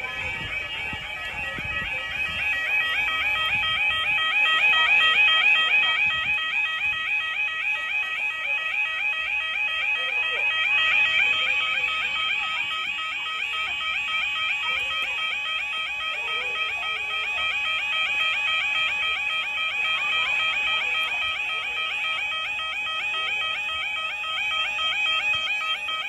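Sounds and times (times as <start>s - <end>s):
level crossing warbling alarm: 0.0s - 26.0s.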